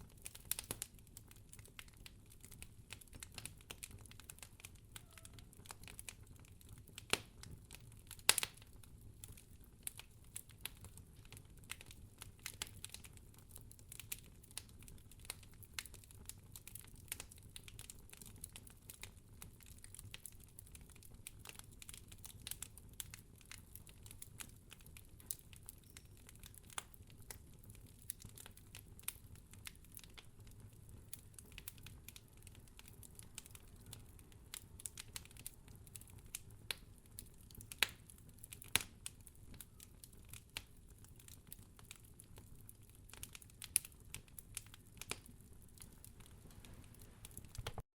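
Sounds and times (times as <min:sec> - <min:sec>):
wood fire crackling: 0:00.0 - 0:47.8.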